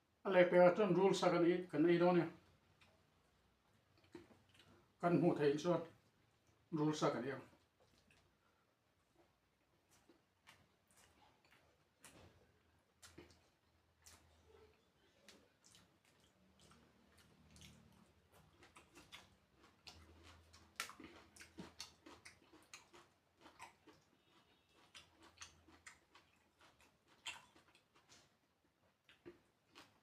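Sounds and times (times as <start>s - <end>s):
person chewing food: 2.6s - 5.0s, 7.6s - 30.0s.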